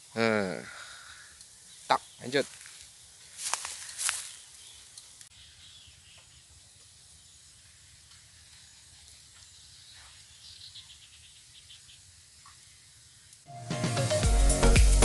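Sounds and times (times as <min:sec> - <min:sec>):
faint hiss: 0:00.0 - 0:14.2.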